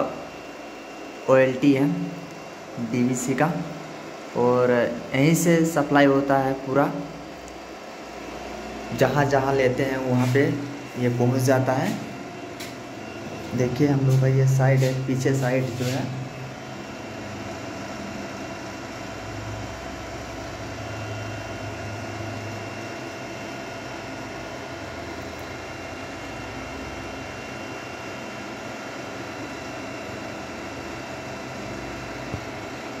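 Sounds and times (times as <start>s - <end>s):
cooling fans whirring: 0.0s - 33.0s.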